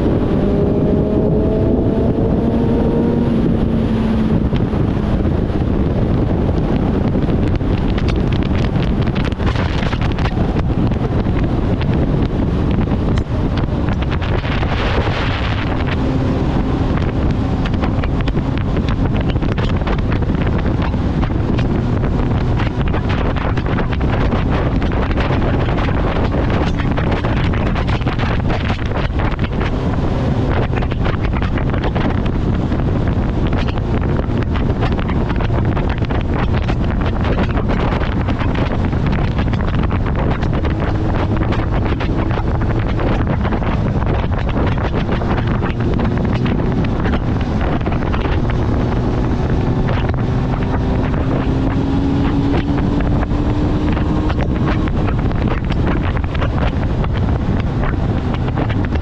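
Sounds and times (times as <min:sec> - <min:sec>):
heavy wind noise: 0:00.0 - 0:59.0
motorcycle engine: 0:00.0 - 0:59.0.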